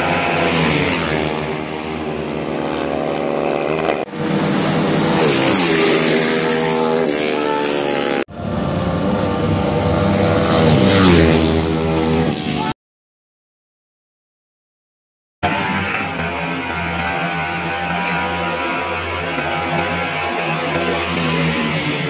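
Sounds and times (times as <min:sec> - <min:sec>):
motorcycle engines revving: 0:00.0 - 0:12.8, 0:15.4 - 0:22.0.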